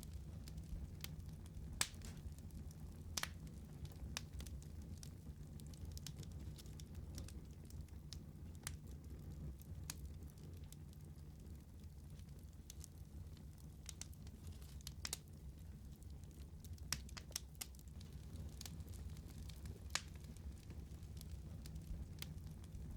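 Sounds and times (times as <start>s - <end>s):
fire pops and snaps: 0.0s - 22.9s
low rumble of burning fire: 0.0s - 22.9s.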